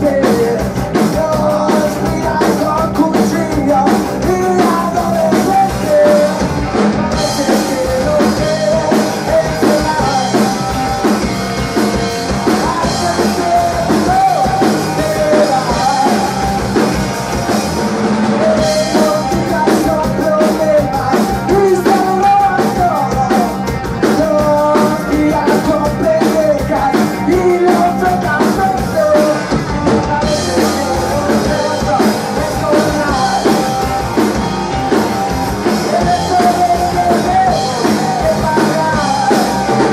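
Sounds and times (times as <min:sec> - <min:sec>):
man singing: 0:00.0 - 0:39.9
rock band playing: 0:00.0 - 0:39.9.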